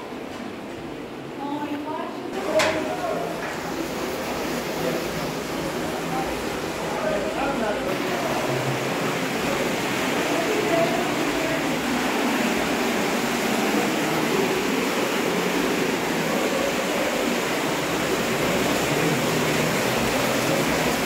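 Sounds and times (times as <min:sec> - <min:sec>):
water rushing through channel: 0:00.0 - 0:21.0.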